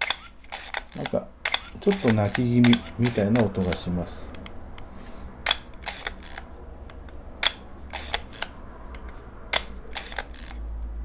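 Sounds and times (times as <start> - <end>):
camera shutter clicking: 0.0 - 4.5, 5.4 - 6.6, 7.4 - 10.6.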